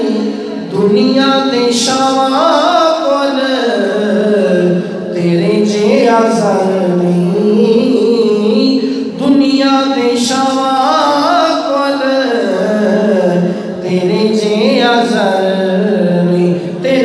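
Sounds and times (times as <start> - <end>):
man singing ornamented notes: 0.0 - 17.0.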